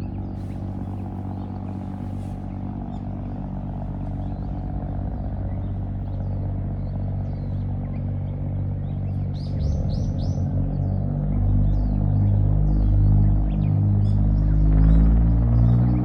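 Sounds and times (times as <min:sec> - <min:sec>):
engine humming: 0:00.0 - 0:16.0
small birds chirping: 0:00.0 - 0:16.0.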